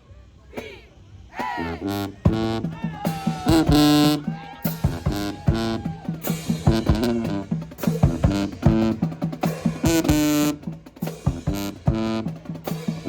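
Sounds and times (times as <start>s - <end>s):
marching band playing: 1.4s - 13.0s
drum hits: 2.2s - 13.0s.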